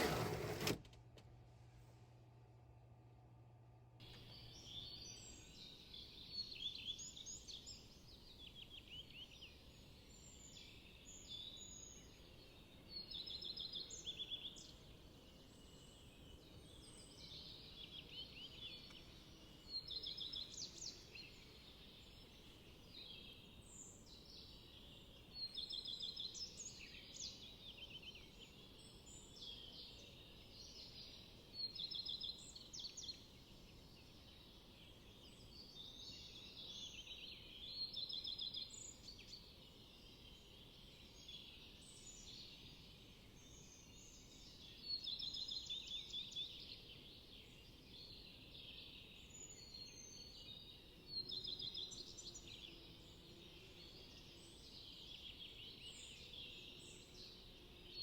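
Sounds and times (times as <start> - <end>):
faint background hiss: 0.0 - 58.0
small songbirds singing: 4.0 - 58.0.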